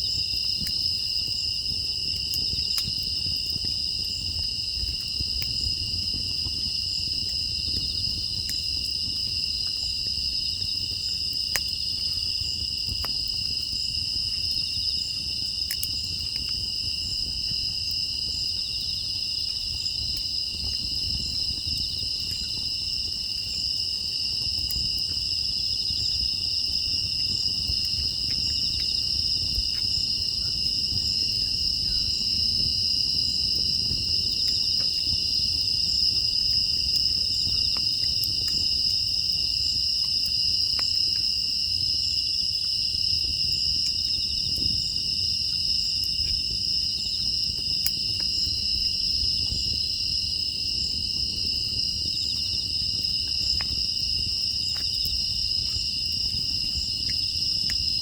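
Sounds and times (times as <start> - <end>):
crickets trilling: 0.0 - 58.0
wood fire crackling: 0.0 - 58.0.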